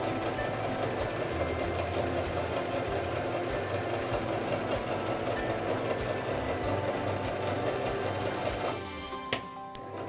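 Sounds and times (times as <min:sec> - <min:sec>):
sewing machine stitching: 0:00.0 - 0:09.0.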